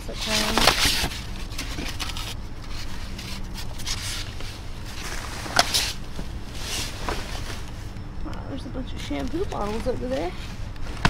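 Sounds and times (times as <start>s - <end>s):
trash bags rustling and scraping: 0.0s - 11.0s.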